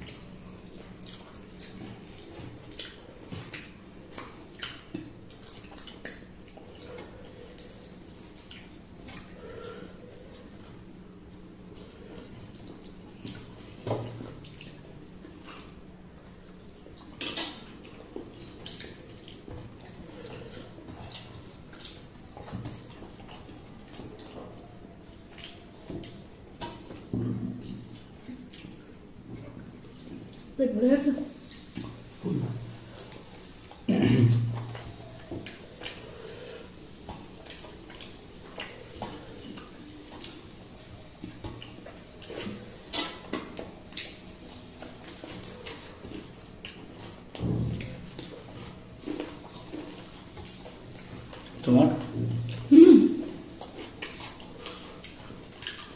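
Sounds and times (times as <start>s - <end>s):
wet clicks and squishes of eating: 0.0s - 30.6s, 31.3s - 55.9s.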